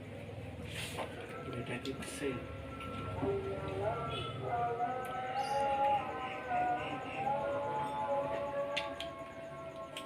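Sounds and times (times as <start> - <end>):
background music with melodic tones: 0.3 - 10.0.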